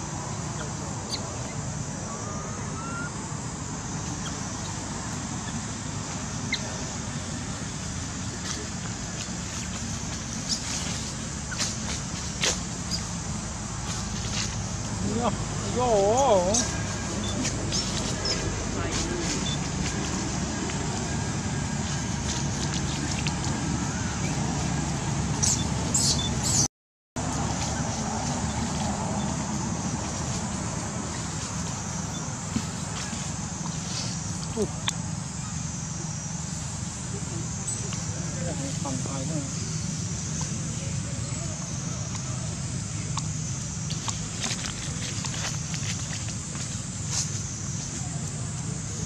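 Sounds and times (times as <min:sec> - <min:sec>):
outdoor background rumble: 0:00.0 - 0:49.0.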